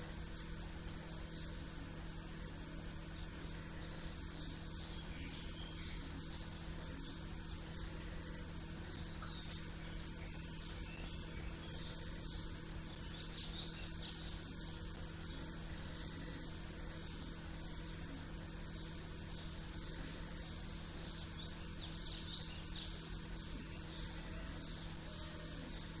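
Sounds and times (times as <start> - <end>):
low steady hum: 0.0 - 26.0
small birds chirping: 0.0 - 26.0.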